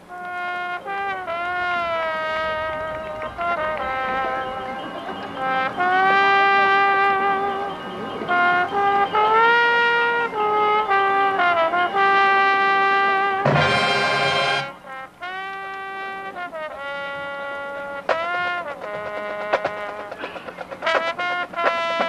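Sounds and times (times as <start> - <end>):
brass band playing sustained chords: 0.0 - 22.0.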